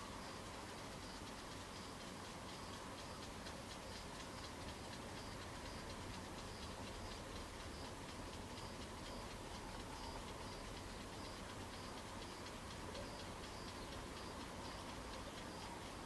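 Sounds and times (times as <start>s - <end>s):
background hiss: 0.0s - 16.0s
cricket chirping: 0.0s - 16.0s.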